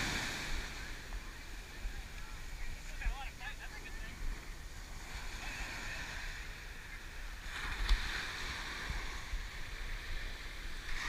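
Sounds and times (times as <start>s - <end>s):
ocean surf washing up beach: 0.0s - 11.0s.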